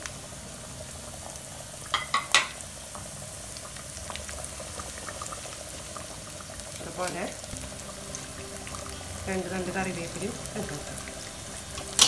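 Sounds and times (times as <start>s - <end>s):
shallots sizzling in oil: 0.0s - 12.0s.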